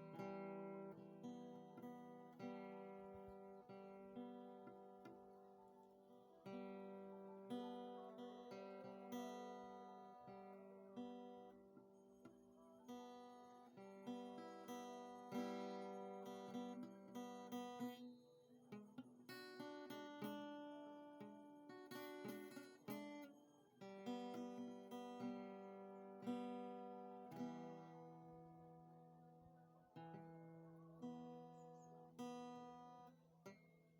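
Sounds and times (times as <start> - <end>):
acoustic guitar music: 0.0 - 33.9.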